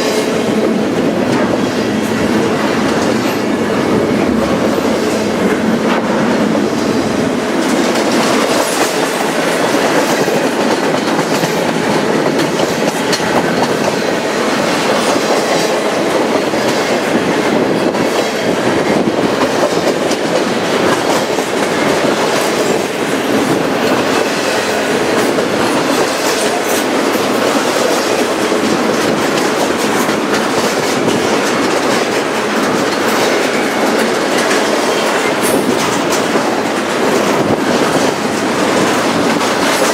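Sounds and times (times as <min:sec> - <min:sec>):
clickety-clack of rail joints: 0:00.0 - 0:39.9
freight train wheels on rail: 0:00.0 - 0:39.9.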